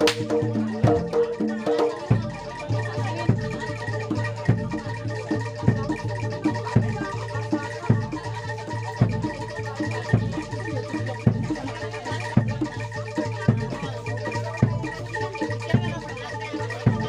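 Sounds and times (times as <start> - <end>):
gamelan ensemble music: 0.0 - 17.0
heavy drum beat: 0.0 - 17.0.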